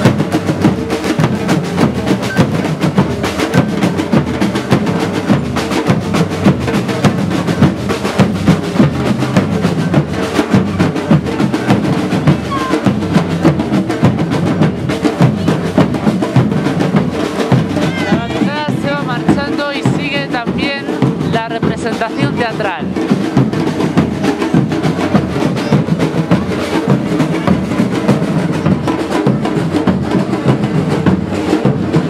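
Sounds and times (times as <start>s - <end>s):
drum group playing fast rhythm: 0.0s - 32.0s.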